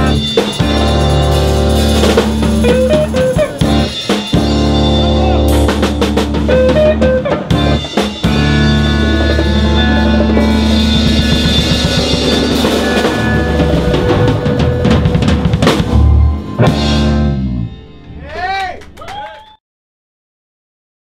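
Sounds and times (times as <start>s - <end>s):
jazz band playing live: 0.0s - 18.2s
drum fills: 0.0s - 19.0s.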